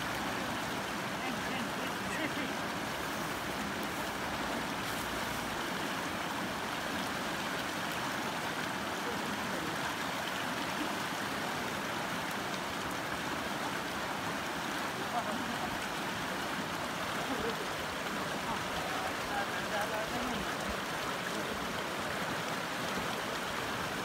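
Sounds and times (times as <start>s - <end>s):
river rushing over stones: 0.0s - 24.0s.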